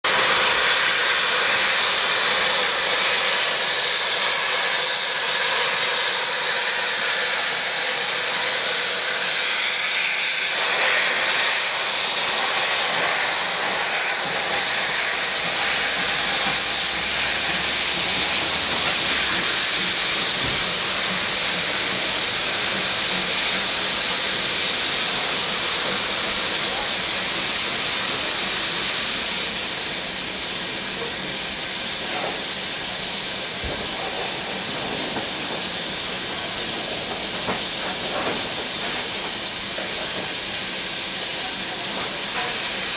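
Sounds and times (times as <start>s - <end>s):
steam locomotive hissing steam: 0.0s - 42.9s.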